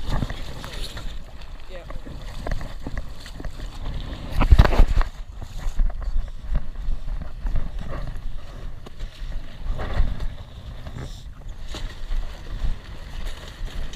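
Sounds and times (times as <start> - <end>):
water rushing along a boat hull: 0.0 - 13.9
wind buffeting microphone: 0.0 - 13.9.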